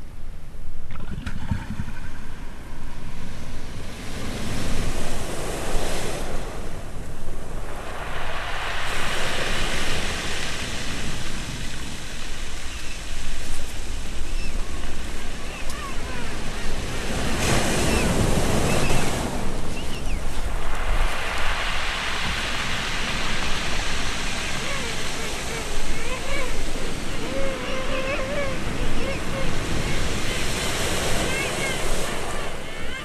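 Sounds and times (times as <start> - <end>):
wind rumbling on microphone: 0.0 - 33.0
surf washing over pebbles: 0.9 - 33.0.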